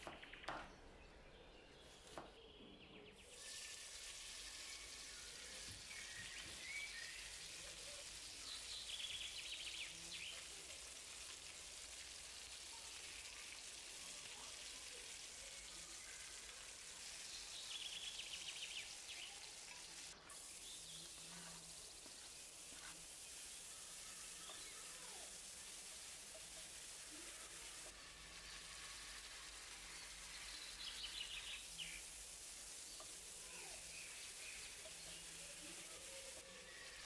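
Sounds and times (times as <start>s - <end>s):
chicken sizzling in oil: 3.2s - 37.0s.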